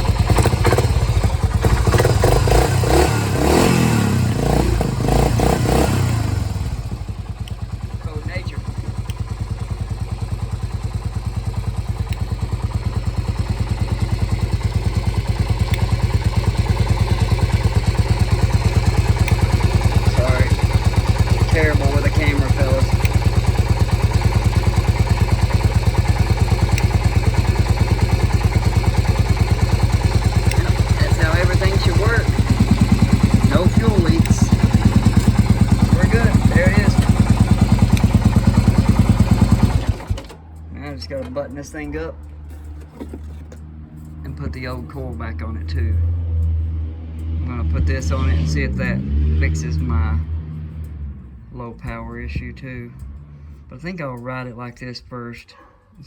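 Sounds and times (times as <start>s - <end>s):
atv engine running: 0.0s - 54.8s.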